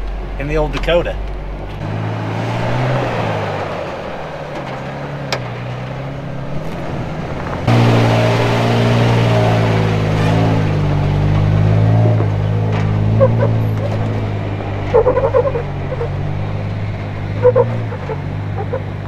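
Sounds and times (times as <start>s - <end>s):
truck engine running at low revs: 0.0s - 19.0s.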